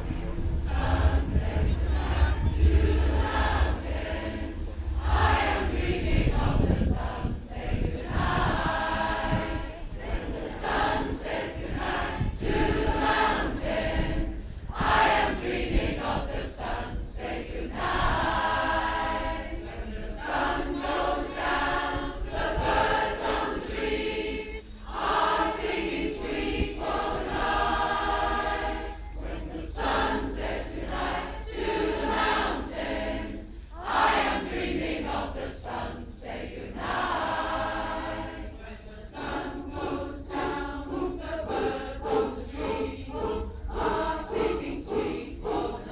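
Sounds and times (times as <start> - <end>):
choir singing held chords: 0.0 - 45.9.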